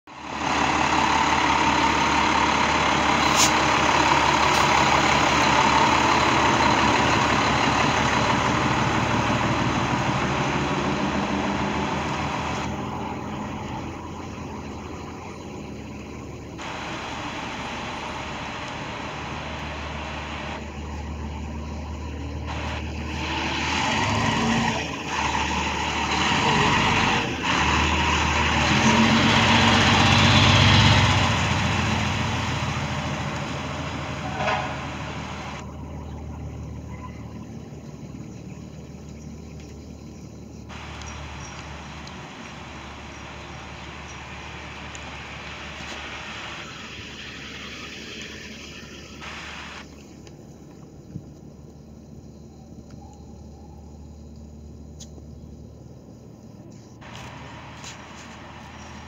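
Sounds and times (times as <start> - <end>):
fire truck diesel engines: 0.0 - 59.0.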